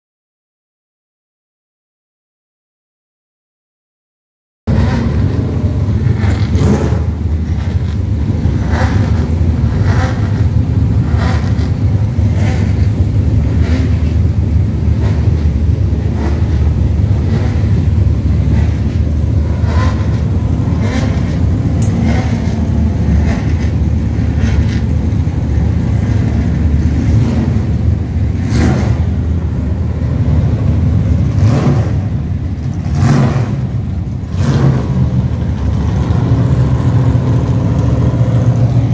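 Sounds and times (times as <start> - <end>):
racing car engines rumbling: 4.7 - 38.9.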